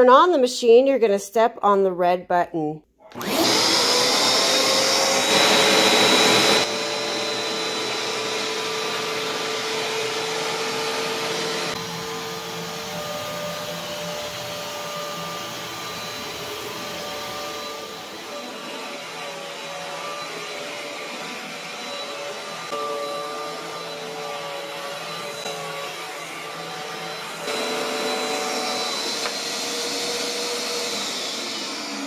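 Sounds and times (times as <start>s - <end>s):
carpet cleaner motor whining: 3.1s - 32.0s.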